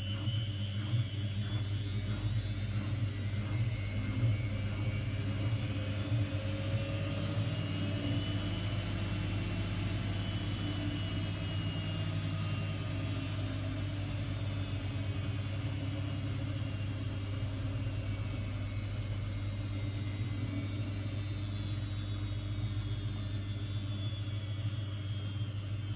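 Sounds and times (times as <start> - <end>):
washing machine drum hum: 0.0 - 21.6
high motor whine: 0.0 - 25.9.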